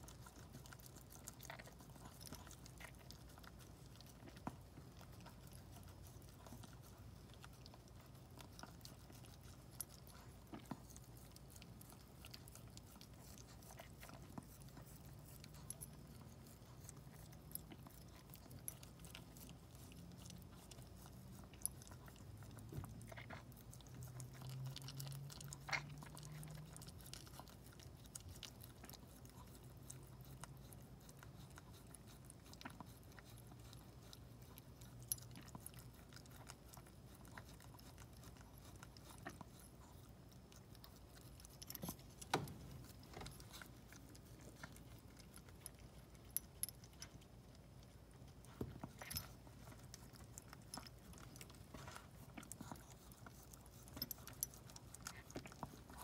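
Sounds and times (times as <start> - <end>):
dog licking and chewing: 0.0 - 56.0.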